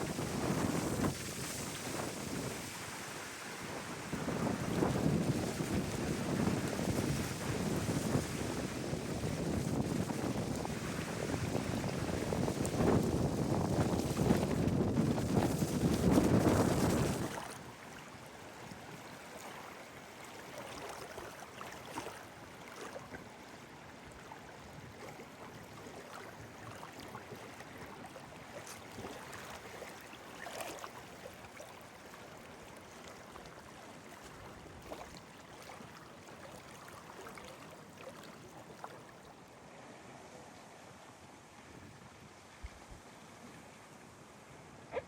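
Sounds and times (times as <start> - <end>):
small waves lapping: 0.0 - 45.0.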